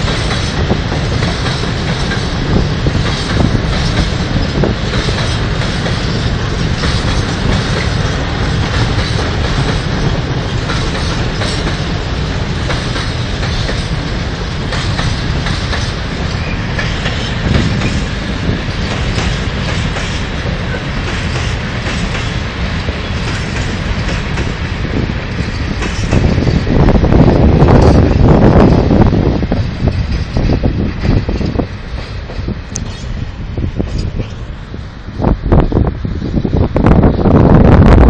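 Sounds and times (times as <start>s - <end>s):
freight train wheels clickety-clack: 0.0s - 38.0s.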